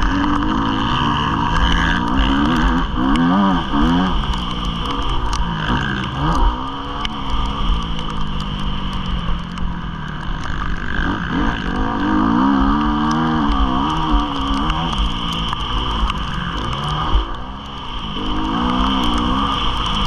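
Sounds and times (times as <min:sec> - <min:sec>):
motocross bike engine revving: 0:00.0 - 0:20.0
wind and track noise: 0:00.0 - 0:20.0.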